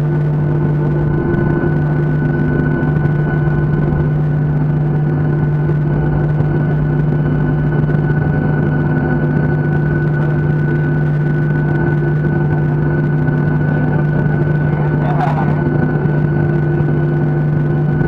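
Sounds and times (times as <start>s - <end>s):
jet engines droning in cabin: 0.0s - 18.0s.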